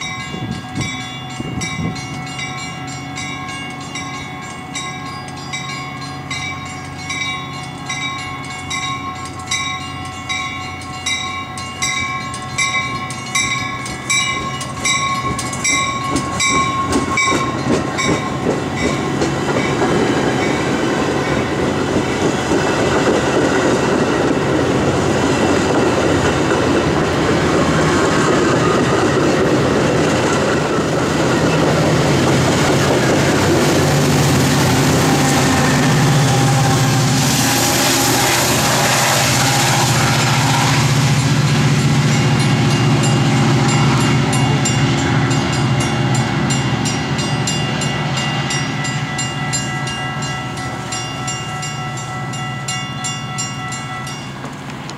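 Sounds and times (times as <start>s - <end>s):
crossing warning bells ringing: 0.0s - 54.9s
diesel locomotive engine running: 0.0s - 54.9s
train wheels rolling on rails: 0.0s - 54.9s.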